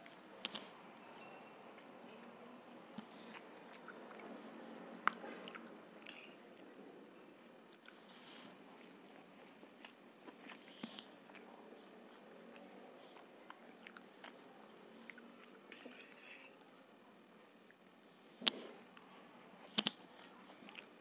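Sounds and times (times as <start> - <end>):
quiet chewing of noodles: 0.0 - 21.0.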